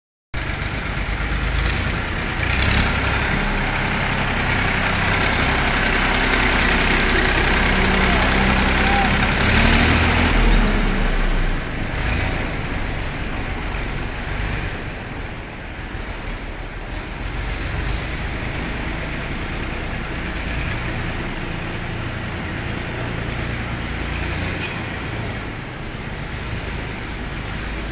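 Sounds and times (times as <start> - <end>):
tractor diesel engine revving: 0.4 - 27.9.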